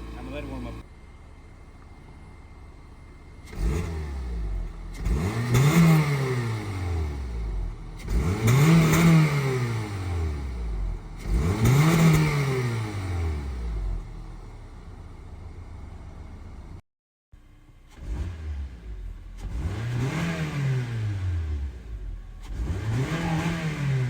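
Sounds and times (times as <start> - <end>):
car engine idling and revving: 0.0 - 16.8, 17.4 - 24.0.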